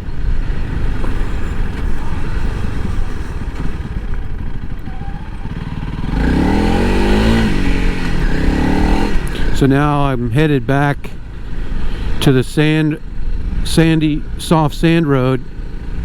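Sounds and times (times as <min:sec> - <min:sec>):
motorcycle engine revving: 0:00.0 - 0:16.0
steady rushing noise: 0:00.0 - 0:16.0.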